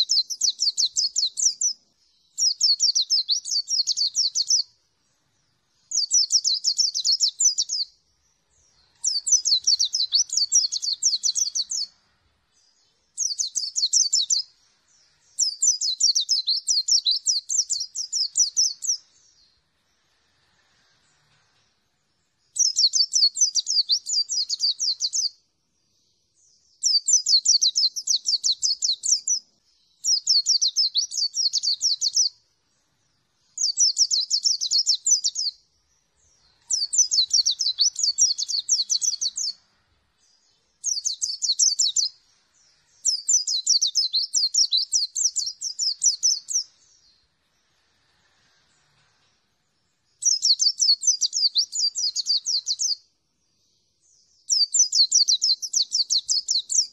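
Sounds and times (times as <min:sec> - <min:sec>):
bird high-pitched twittering: 0:00.0 - 0:20.1, 0:22.1 - 0:25.4, 0:26.4 - 0:32.4, 0:33.0 - 0:47.7, 0:49.8 - 0:56.9.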